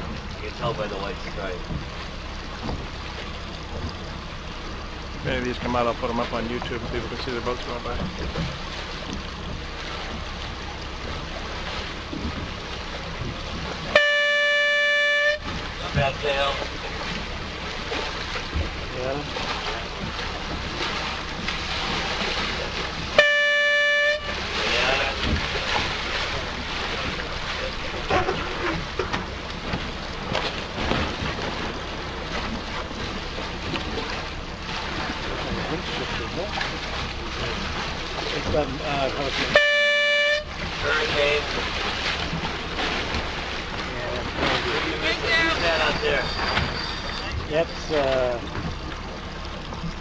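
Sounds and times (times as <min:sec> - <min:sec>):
water washing around boat: 0:00.0 - 0:50.0.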